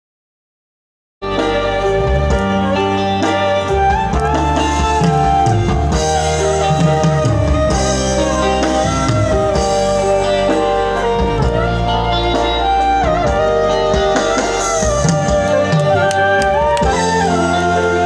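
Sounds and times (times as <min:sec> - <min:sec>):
live band through loudspeakers: 0:01.2 - 0:18.0.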